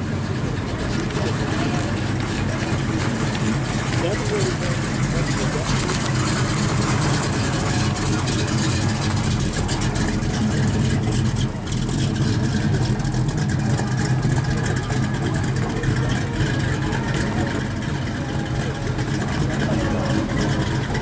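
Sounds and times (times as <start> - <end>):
car engine exhaust rumble: 0.0 - 21.0.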